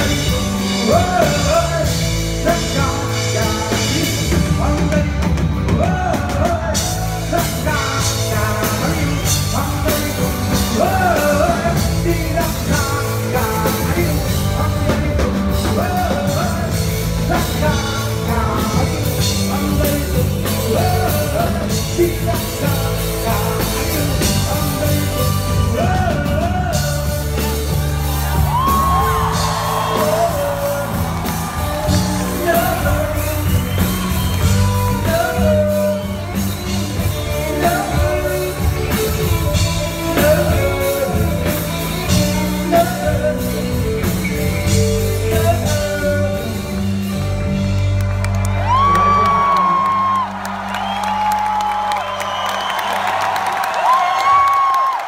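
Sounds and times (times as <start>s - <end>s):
man singing: 0.0s - 47.8s, 48.6s - 50.4s
rock band playing live: 0.0s - 55.0s.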